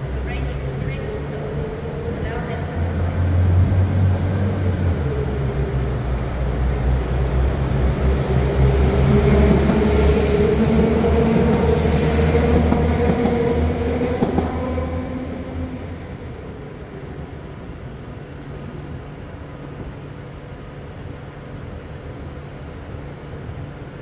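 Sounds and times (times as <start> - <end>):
train passing: 0.0 - 24.0.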